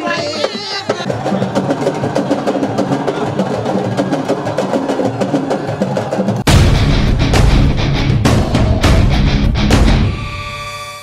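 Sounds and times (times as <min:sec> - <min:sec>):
fast drum rhythm: 0:00.0 - 0:10.1.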